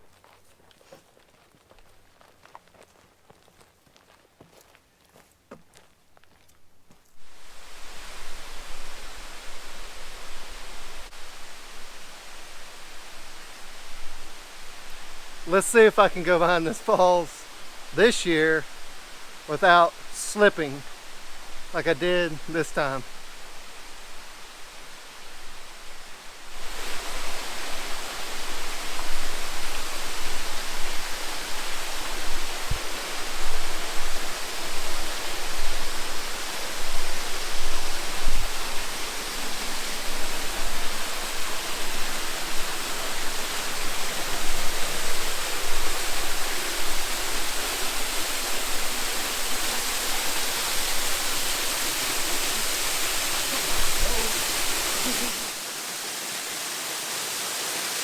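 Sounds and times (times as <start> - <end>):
waterfall rushing: 7.3 - 58.0.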